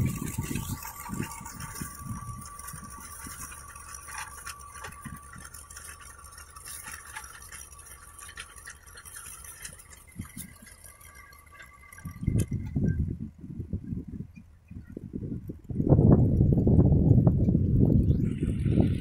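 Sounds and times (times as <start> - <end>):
rotary tiller ticks and rattles: 0.0 - 19.0
tractor engine running: 0.0 - 19.0.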